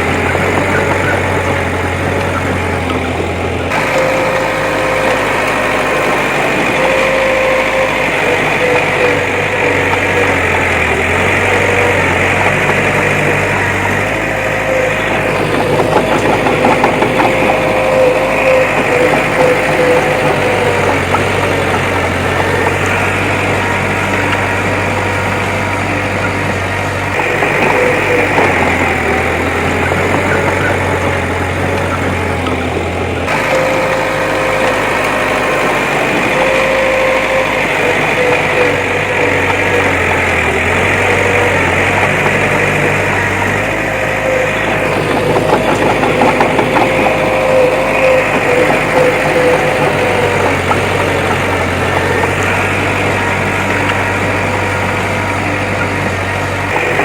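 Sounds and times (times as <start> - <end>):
diesel engine running: 0.0 - 57.0
steady whine: 0.0 - 57.0.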